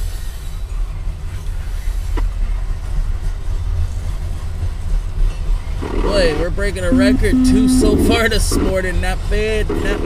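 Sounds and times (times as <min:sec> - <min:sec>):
hopper cars rolling on rails: 0:00.0 - 0:07.0, 0:07.9 - 0:10.0.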